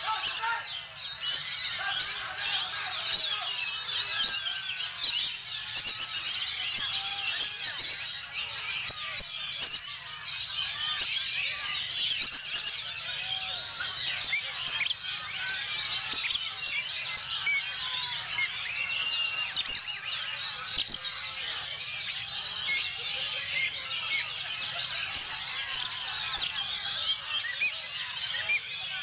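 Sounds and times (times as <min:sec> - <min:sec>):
songbirds singing chorus: 0:00.0 - 0:29.0.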